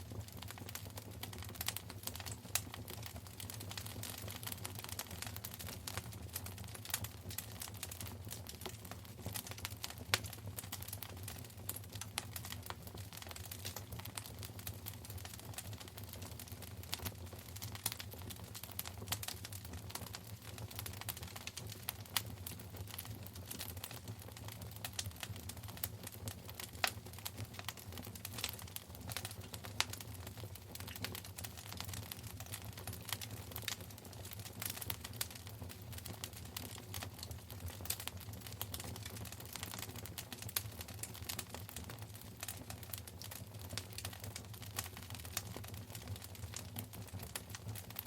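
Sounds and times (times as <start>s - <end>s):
low rumble of flame: 0.0s - 48.0s
wood fire crackling and popping: 0.0s - 48.0s.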